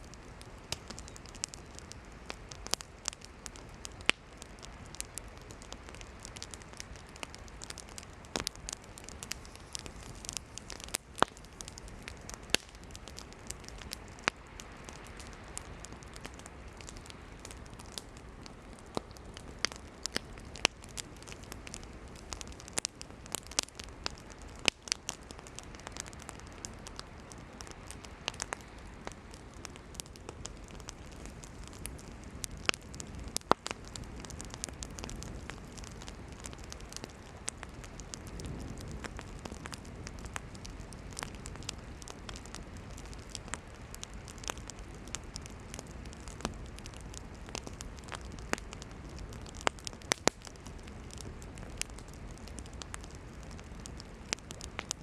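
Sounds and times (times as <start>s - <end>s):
campfire crackling and popping: 0.0s - 55.0s
low hiss of flames: 0.0s - 55.0s.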